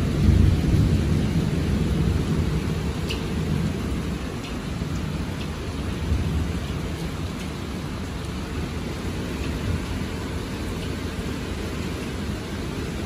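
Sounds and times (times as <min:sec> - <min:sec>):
heavy rain pouring: 0:00.0 - 0:13.0
raindrops ticking: 0:00.0 - 0:13.0
thunder rumbling: 0:00.0 - 0:13.0.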